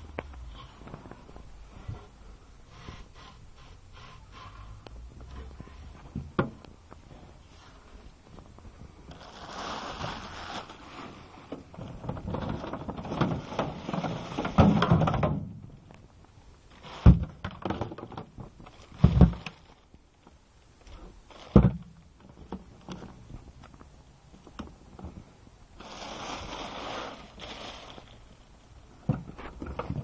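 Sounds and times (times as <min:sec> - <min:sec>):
rustling and scraping handling noise: 0:00.0 - 0:30.0.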